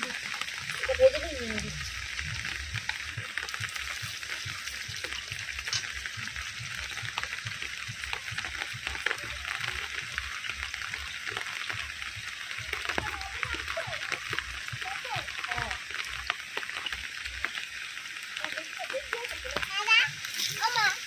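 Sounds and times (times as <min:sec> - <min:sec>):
leaves sizzling in hot oil: 0:00.0 - 0:21.0.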